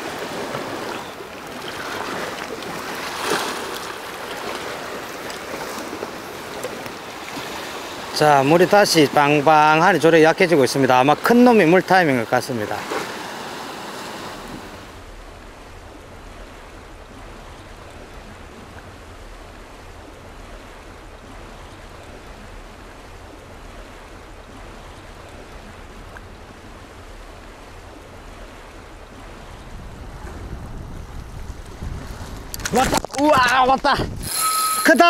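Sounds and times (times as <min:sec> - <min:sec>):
sea surf rushing: 0:00.0 - 0:35.0.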